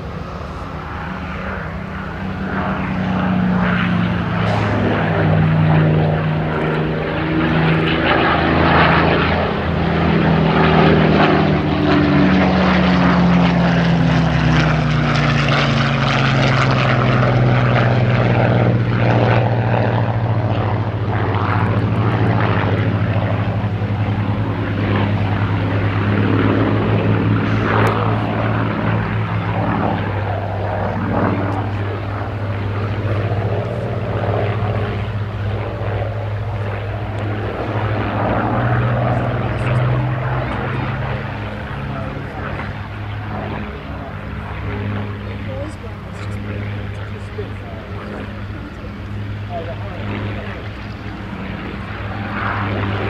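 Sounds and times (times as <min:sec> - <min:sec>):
propeller plane engine drone: 0:00.0 - 0:53.0.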